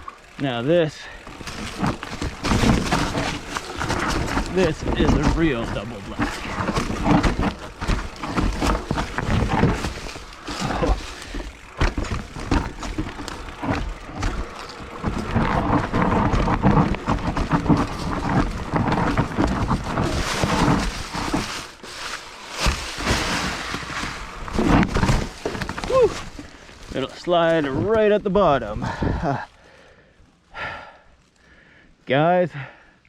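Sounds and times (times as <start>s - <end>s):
bike tyres grinding over dirt: 0.0s - 32.8s.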